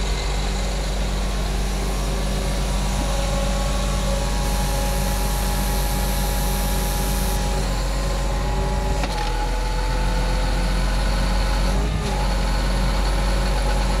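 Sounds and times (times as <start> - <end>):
tractor diesel engine rumbling: 0.0 - 14.0.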